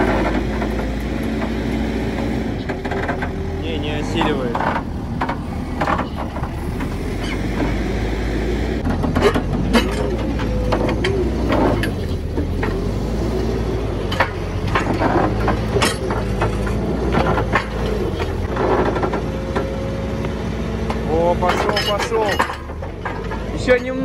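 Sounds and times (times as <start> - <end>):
sharp knocks and rattles: 0.0 - 8.0, 8.8 - 13.1, 13.7 - 24.0
vehicle engine running: 0.0 - 24.0.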